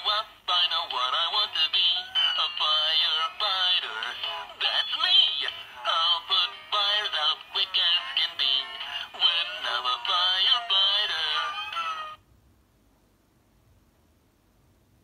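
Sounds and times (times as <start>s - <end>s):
toy singing through small speaker: 0.0s - 12.2s.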